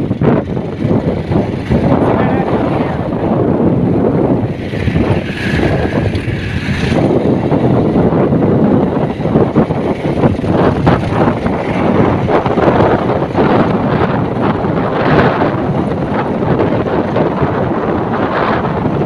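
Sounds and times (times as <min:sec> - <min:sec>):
motorbike riding noise: 0:00.0 - 0:19.0
wind buffeting microphone: 0:00.0 - 0:19.0.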